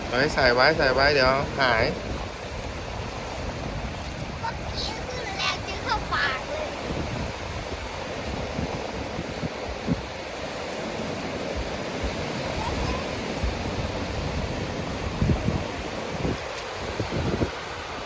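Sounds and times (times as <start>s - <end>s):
sea surf washing onto beach: 0.0s - 18.0s
wind buffeting microphone: 0.0s - 18.0s.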